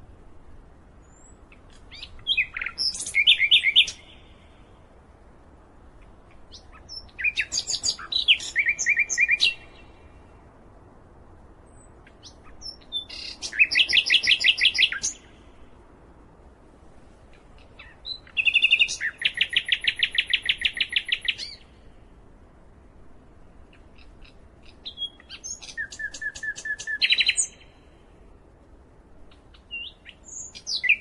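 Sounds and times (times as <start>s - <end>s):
faint hiss: 0.0s - 31.0s
songbird chirping: 0.0s - 31.0s.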